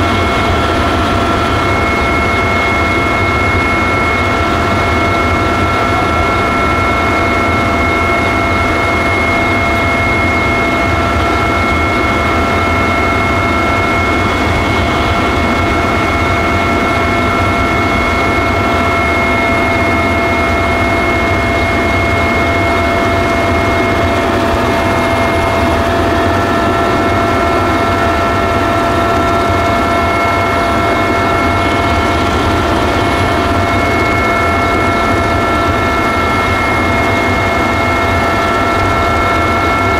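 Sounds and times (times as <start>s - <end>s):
constant high whine: 0.0s - 39.9s
helicopter engine and rotor noise: 0.0s - 39.9s.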